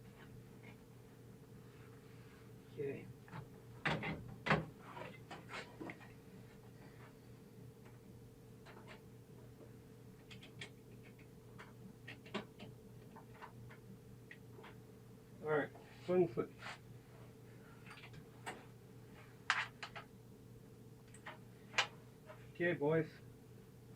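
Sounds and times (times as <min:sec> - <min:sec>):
faint electrical hum: 0:00.0 - 0:23.9.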